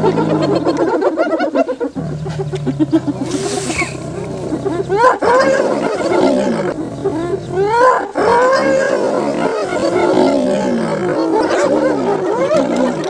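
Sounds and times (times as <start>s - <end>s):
hyenas whooping and giggling: 0.0s - 13.0s
lion snarling: 1.8s - 13.0s.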